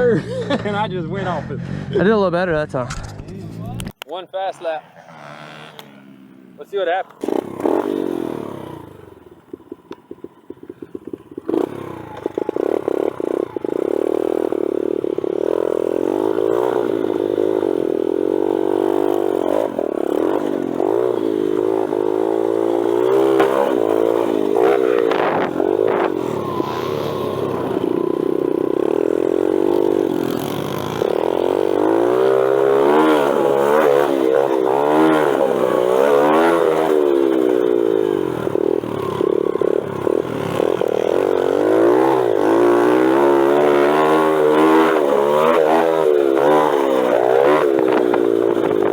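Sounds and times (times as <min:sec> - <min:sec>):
dirt bike engine revving: 0:00.0 - 0:48.9
bike rattling: 0:02.8 - 0:48.9.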